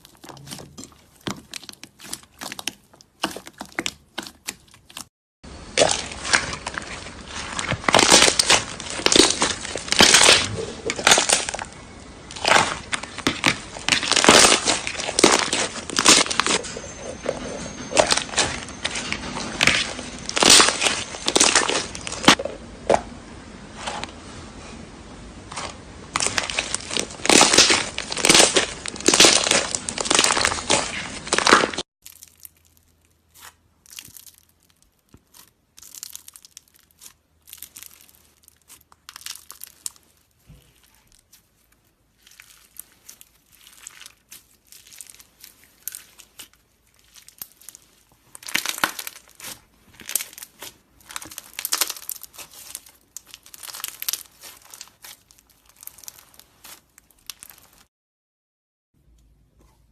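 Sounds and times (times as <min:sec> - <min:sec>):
slime crackling: 0:00.0 - 0:16.6, 0:17.9 - 0:23.1, 0:25.5 - 0:57.9.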